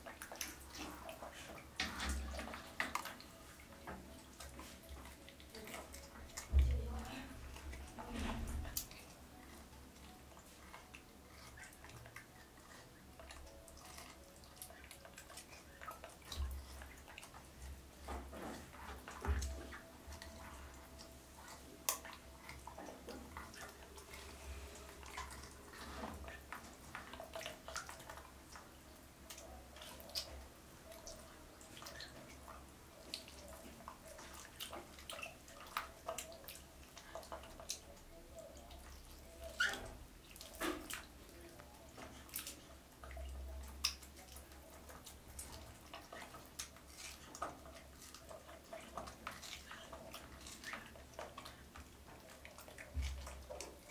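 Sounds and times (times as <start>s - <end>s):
water drips and splashes: 0.0s - 53.9s
soft wet clicks: 8.7s - 53.9s.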